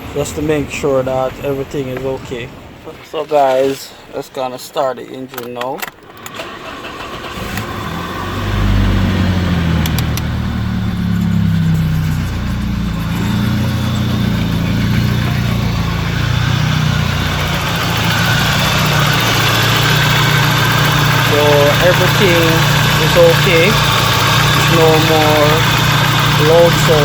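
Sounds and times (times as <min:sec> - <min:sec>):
car engine cranking and idling: 0:00.0 - 0:27.0.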